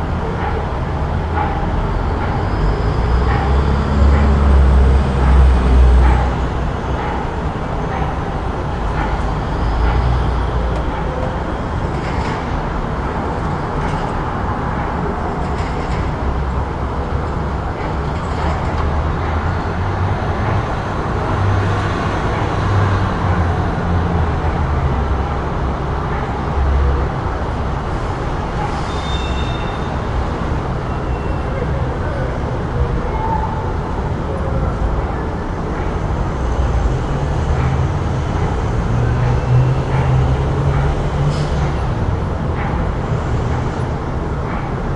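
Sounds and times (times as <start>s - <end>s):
rumble of passing vehicles: 0.0s - 44.9s
traffic noise: 0.0s - 44.9s.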